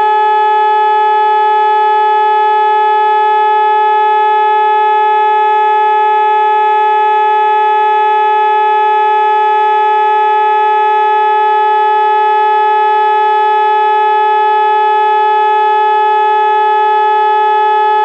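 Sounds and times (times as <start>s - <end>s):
electronic siren steady tone: 0.0s - 18.0s.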